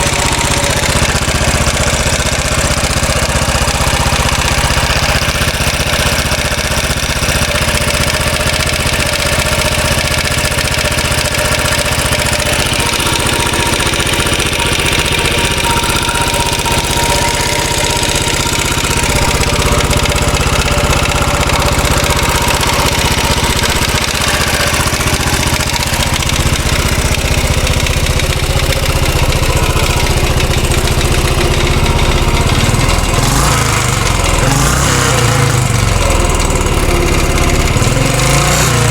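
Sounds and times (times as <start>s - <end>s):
engine rattle: 0.0s - 38.9s
motorcycle engine idling: 0.0s - 38.9s.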